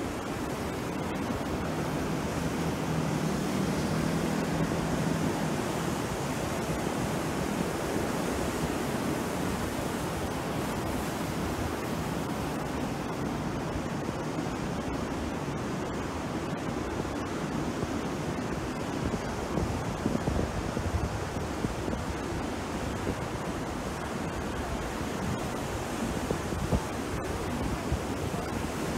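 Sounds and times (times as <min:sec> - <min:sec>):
sea surf breaking on shore: 0:00.0 - 0:28.9.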